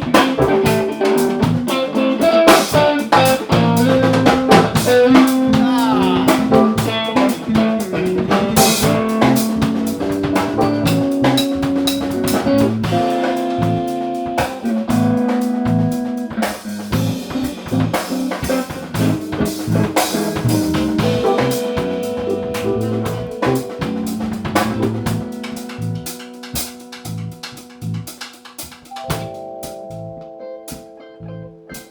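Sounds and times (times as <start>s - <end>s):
drum kit beats: 0.0s - 31.0s, 31.7s - 31.9s
electric guitar playing: 0.0s - 31.9s.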